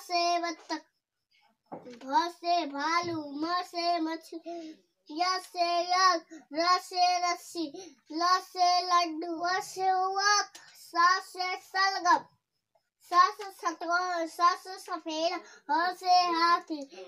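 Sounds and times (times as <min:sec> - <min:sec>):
child chanting in sing-song voice: 0:00.0 - 0:01.0, 0:01.7 - 0:12.4, 0:13.0 - 0:17.0.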